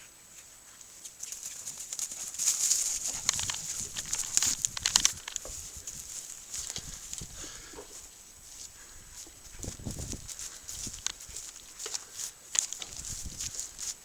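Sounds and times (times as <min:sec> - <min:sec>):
animal claws tapping and scuffling: 0:01.0 - 0:08.0, 0:08.6 - 0:14.0.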